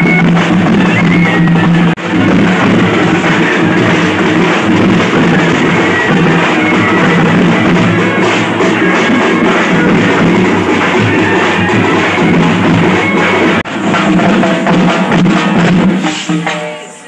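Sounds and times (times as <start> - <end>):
loud music with drum beat: 0.0 - 17.0.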